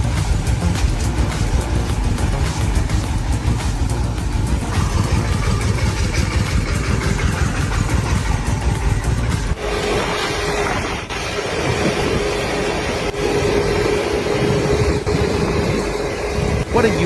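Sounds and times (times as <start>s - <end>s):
steady whine: 0.0s - 17.0s
vehicle engine running: 0.0s - 17.0s.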